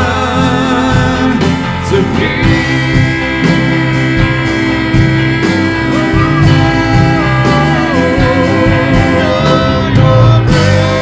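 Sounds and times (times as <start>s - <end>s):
guitar chords: 0.0s - 11.0s
steady drum beat: 0.0s - 11.0s
worship band music: 0.0s - 11.0s.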